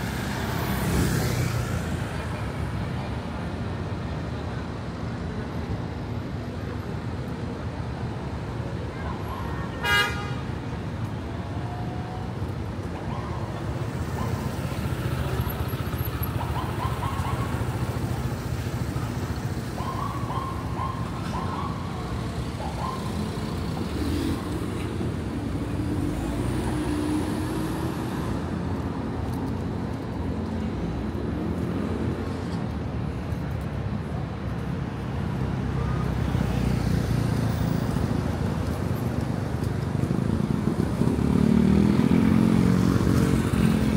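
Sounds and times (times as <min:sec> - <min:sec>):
street traffic rumble: 0:00.0 - 0:43.9.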